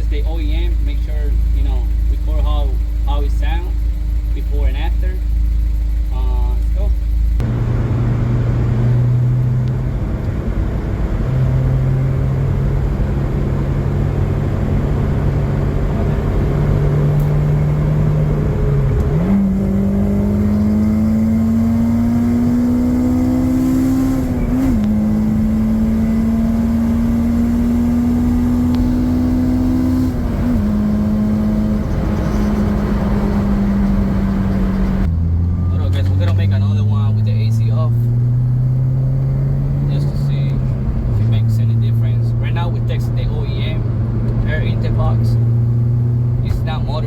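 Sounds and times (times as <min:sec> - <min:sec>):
car engine revving: 0:00.0 - 0:47.0
road noise: 0:00.0 - 0:47.0.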